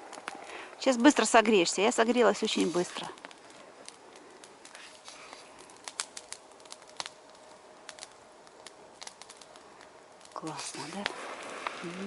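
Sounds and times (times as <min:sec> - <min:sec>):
campfire crackling and popping: 0:00.0 - 0:12.0
faint low hiss: 0:00.0 - 0:12.0.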